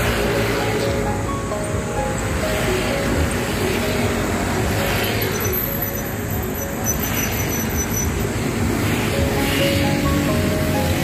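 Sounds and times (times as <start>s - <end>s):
cars passing on road: 0.0s - 11.0s.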